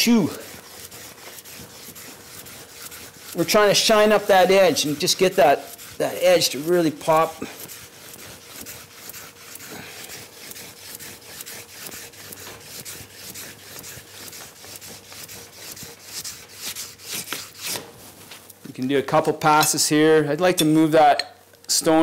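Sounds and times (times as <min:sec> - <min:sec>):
stone scraping ski edge: 0:00.1 - 0:18.4.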